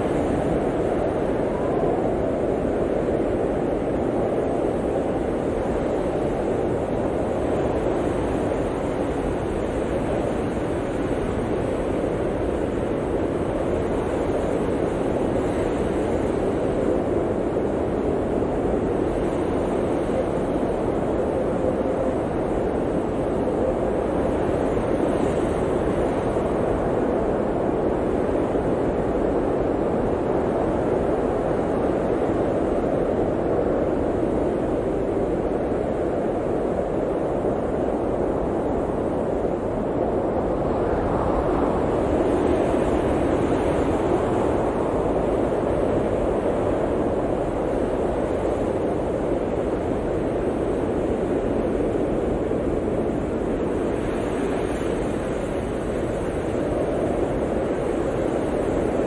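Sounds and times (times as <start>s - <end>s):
blizzard wind blowing: 0.0s - 59.0s.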